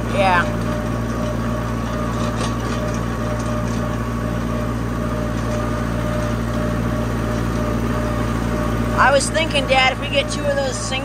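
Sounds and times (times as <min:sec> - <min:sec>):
faint steady whine: 0:00.0 - 0:11.0
farm vehicle engine droning: 0:00.0 - 0:11.0.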